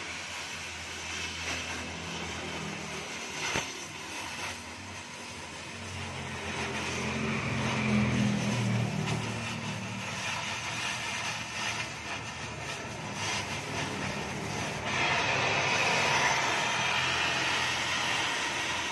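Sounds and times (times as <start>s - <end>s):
welding torch hissing: 0.0s - 18.9s
vehicle engine droning: 1.6s - 18.9s.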